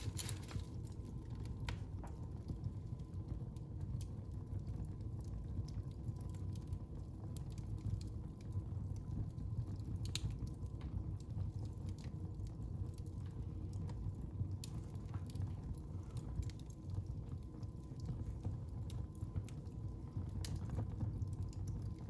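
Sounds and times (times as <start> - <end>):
fire crackles and pops: 0.0 - 22.0
low rumble of flames: 0.0 - 22.0.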